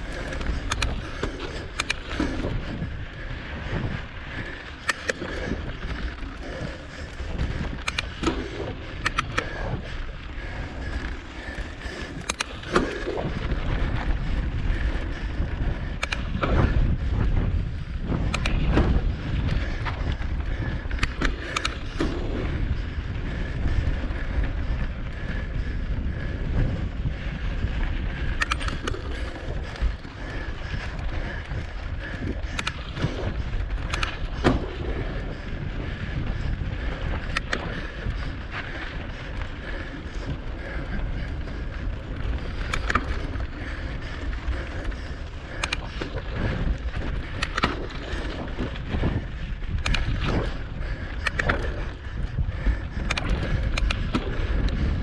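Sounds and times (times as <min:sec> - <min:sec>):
bike rattling over stones: 0:00.0 - 0:55.0
bike tyres rumbling on dirt: 0:00.0 - 0:55.0
wind on microphone: 0:00.0 - 0:55.0.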